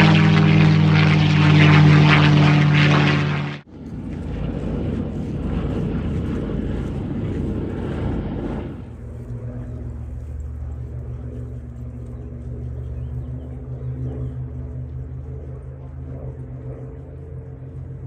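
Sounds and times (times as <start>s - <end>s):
propeller aircraft engine: 0.0s - 18.0s
steady low hum: 0.0s - 18.0s.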